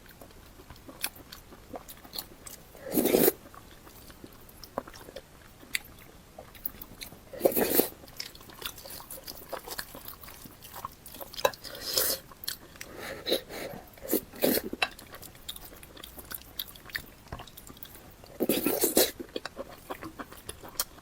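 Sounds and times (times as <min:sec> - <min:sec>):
crunchy eating and chewing: 0:00.0 - 0:21.0.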